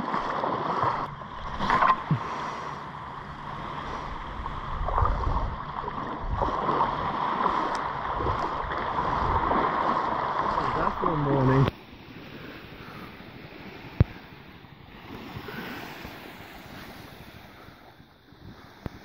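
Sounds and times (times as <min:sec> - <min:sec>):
waves lapping at shore: 0:00.0 - 0:19.0
wind rumble on microphone: 0:00.0 - 0:19.0.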